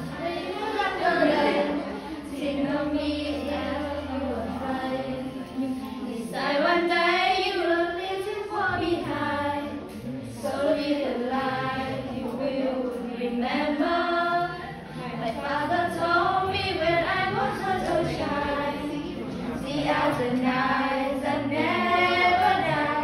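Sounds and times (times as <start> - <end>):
girls singing a pop song: 0.0 - 23.0.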